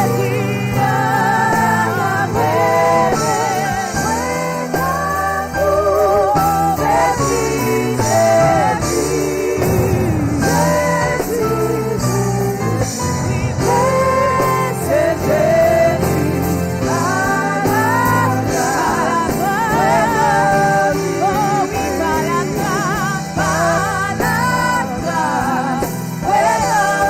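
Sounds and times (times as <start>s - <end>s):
person singing with vibrato: 0.0s - 27.0s.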